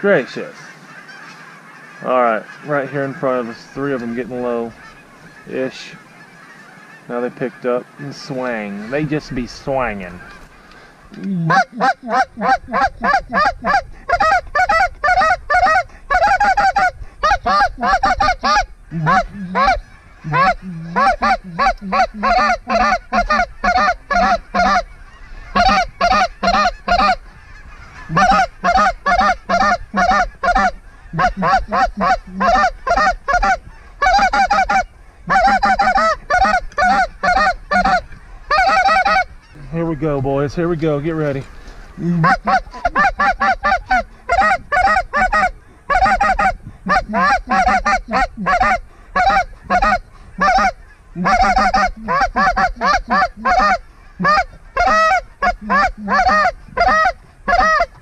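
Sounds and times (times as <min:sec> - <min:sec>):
goose call honks and clucks: 0:00.1 - 0:40.2, 0:41.1 - 0:58.0.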